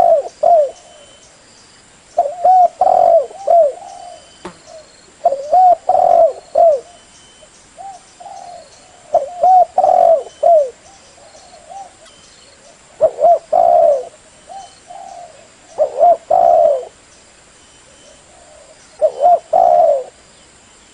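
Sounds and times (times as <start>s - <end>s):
dove cooing: 0.0s - 1.2s, 2.2s - 7.0s, 7.8s - 17.0s, 17.8s - 20.2s.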